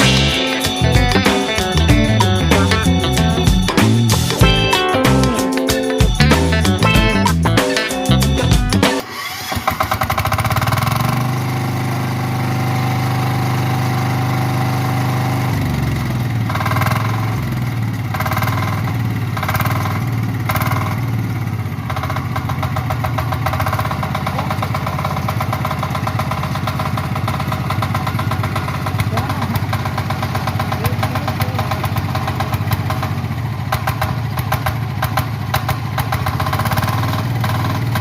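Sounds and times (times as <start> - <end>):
power weeder engine running: 6.1 - 38.0.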